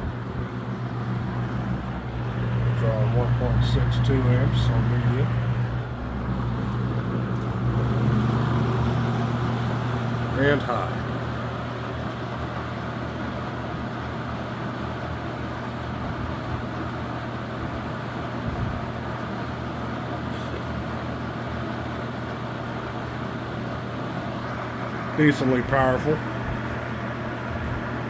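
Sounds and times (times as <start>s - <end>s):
box fan running: 0.0s - 28.0s.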